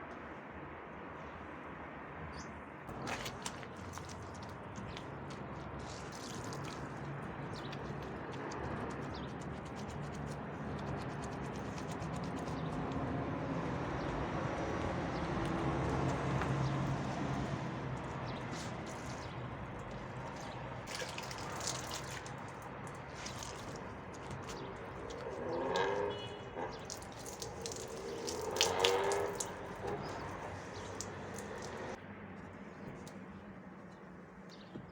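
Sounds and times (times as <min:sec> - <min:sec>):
water running and splashing: 0:02.9 - 0:32.0.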